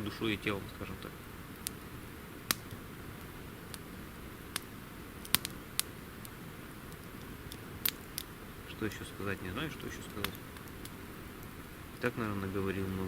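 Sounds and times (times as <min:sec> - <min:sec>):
campfire wood crackling: 0:00.0 - 0:13.0
faint steady hiss: 0:00.0 - 0:13.0.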